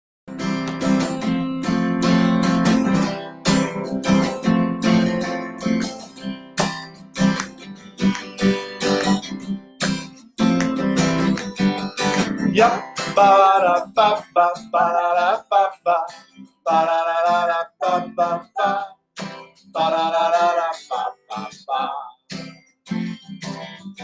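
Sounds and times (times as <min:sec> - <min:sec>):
acoustic guitar strumming: 0:00.3 - 0:24.0.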